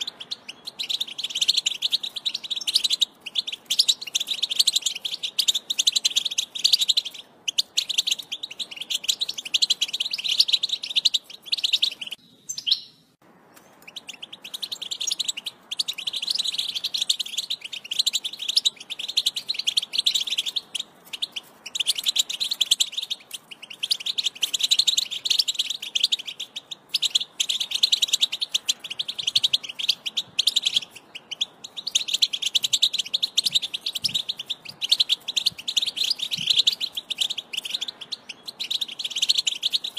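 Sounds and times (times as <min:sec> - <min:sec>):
finch twittering song: 0:00.0 - 0:39.9.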